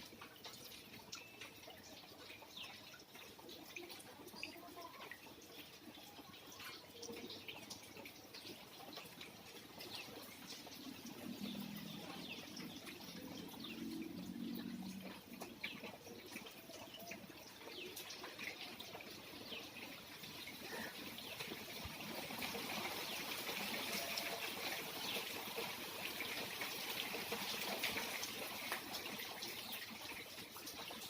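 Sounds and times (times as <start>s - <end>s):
rain dripping: 0.0s - 31.0s.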